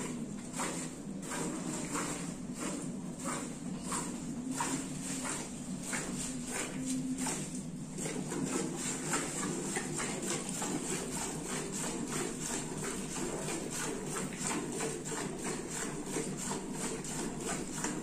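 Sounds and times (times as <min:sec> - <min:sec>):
milk squirting into steel bucket: 0:00.1 - 0:18.0.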